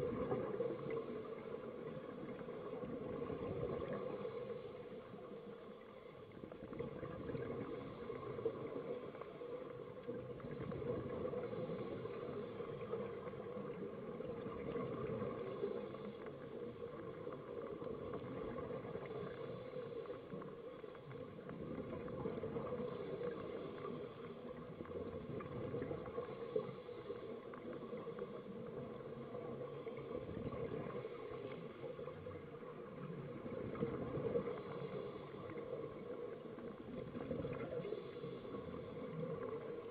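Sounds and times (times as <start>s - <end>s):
murky underwater ambience: 0.0s - 39.9s.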